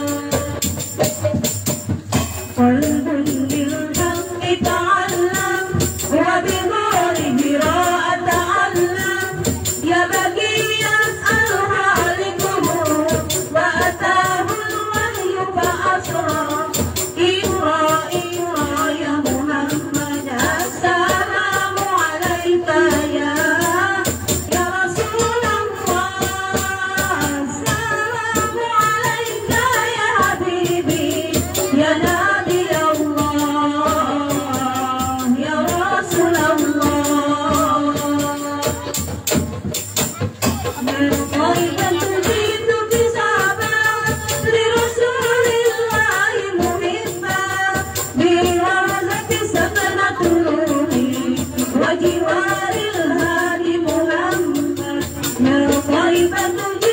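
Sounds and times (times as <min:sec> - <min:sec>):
group of girls singing: 0:00.0 - 0:01.7, 0:02.4 - 0:39.4, 0:40.0 - 0:56.9
frame drum rhythms: 0:00.0 - 0:56.9.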